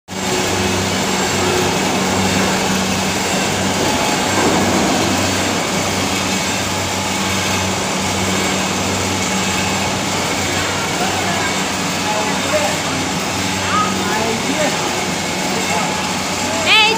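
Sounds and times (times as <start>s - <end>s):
wire production machinery drone: 0.1s - 16.9s.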